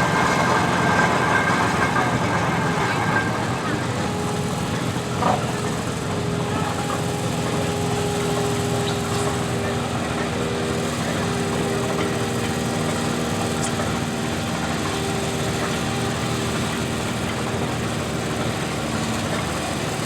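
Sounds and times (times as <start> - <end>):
garden tractor engine running: 0.0 - 20.0.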